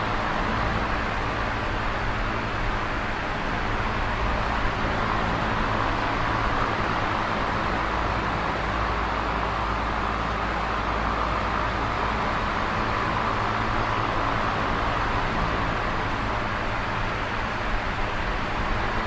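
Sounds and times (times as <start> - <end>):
electric fan whirring: 0.0 - 19.0.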